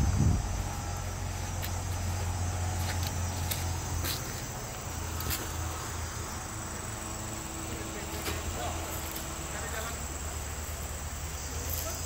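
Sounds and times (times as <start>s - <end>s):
forest insects chorus: 0.0s - 12.0s
low steady rumble: 0.0s - 12.0s.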